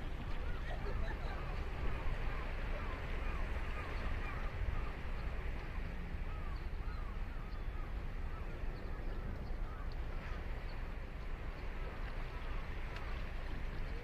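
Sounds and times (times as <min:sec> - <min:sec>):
ocean waves washing onto beach: 0:00.0 - 0:14.0.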